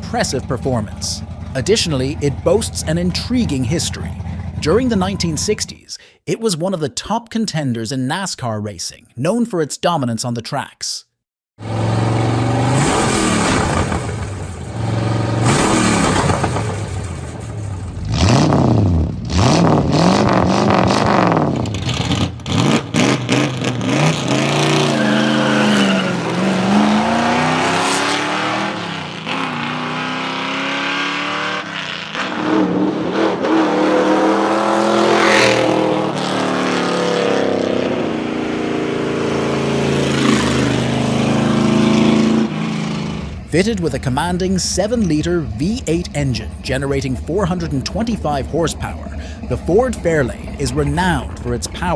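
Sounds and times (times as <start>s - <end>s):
car engine revving: 0.0s - 5.7s, 11.6s - 51.9s.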